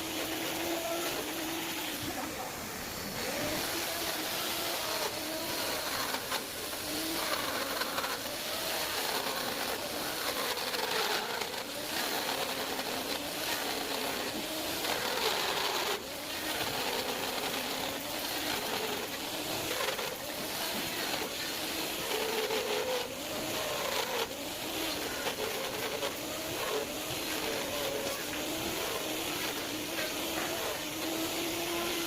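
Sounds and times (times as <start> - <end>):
power tool cutting wood: 0.0 - 32.0.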